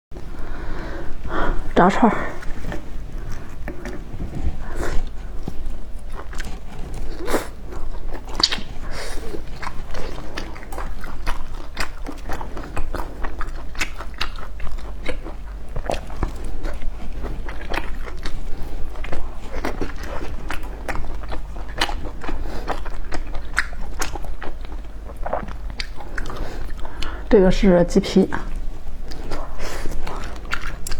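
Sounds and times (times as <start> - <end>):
crunchy biting and chewing: 2.3 - 27.2, 28.5 - 30.9.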